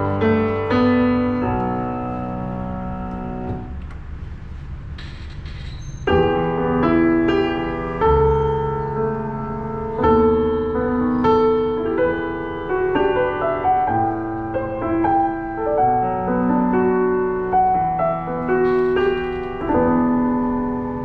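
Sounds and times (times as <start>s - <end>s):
slow gentle piano: 0.0s - 21.0s.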